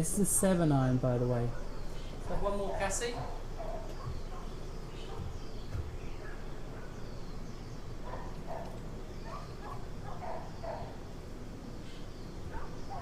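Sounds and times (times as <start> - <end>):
steady low background noise: 0.0 - 13.0.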